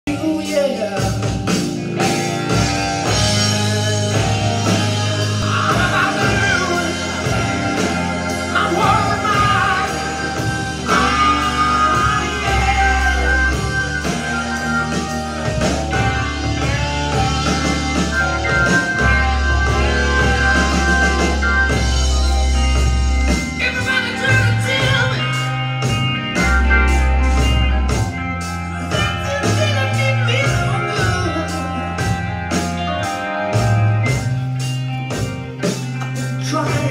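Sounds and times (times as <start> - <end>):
rock song on vinyl record: 0.0 - 36.9
deep bass notes: 0.2 - 36.9.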